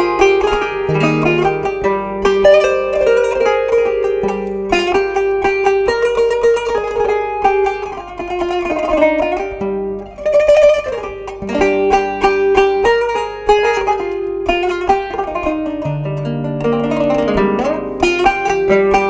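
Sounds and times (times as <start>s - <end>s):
plucked zither melody: 0.0s - 19.0s.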